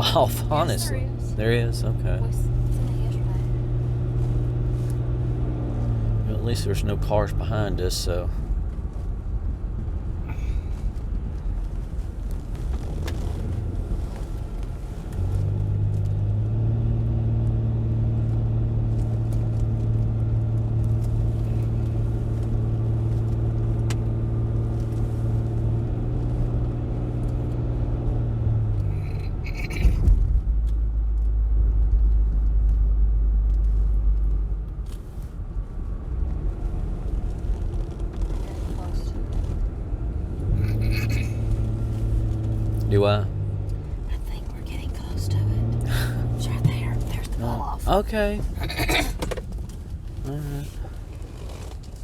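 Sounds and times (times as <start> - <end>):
car engine drone: 0.0 - 52.0
deep low rumble: 0.0 - 52.0
road noise: 0.0 - 52.0.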